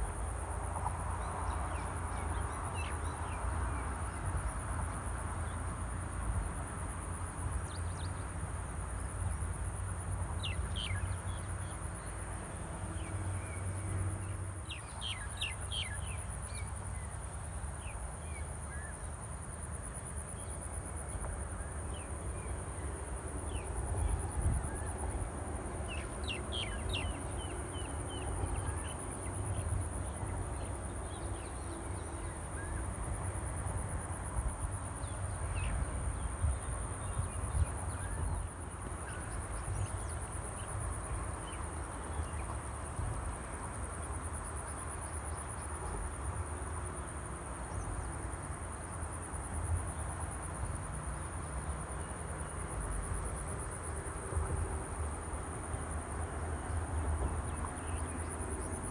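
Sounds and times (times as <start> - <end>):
insect drone: 0.0 - 58.9.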